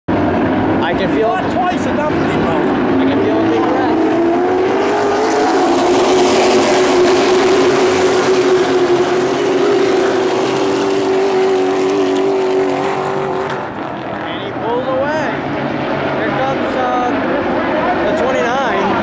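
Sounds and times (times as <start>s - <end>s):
racing car engines droning: 0.1s - 19.0s.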